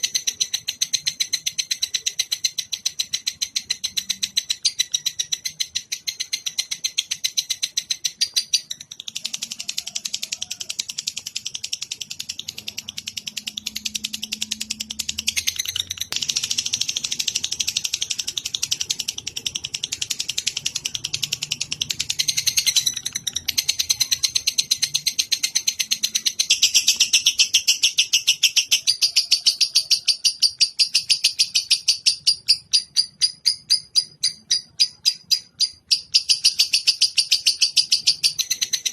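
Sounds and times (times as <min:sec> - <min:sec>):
rapid high-pitched bird chirping: 0:00.0 - 0:38.9.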